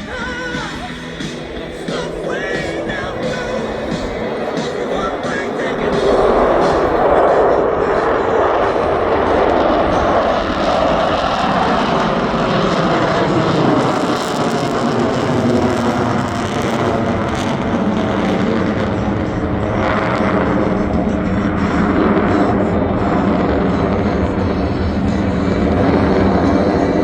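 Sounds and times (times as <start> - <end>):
jet engines in flight: 0.0 - 27.0.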